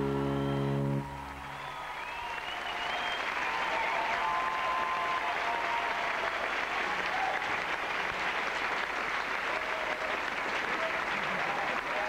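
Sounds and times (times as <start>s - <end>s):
audience applauding: 0.3s - 12.0s.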